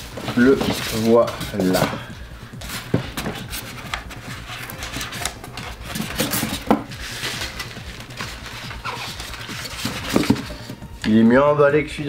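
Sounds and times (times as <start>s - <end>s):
foam and cardboard rustling: 0.0s - 11.2s.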